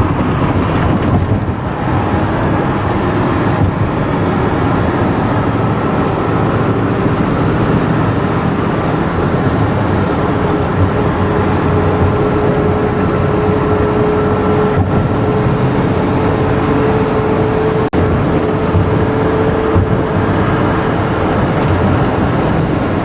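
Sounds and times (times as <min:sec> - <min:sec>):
car driving in city traffic: 0:00.0 - 0:23.0.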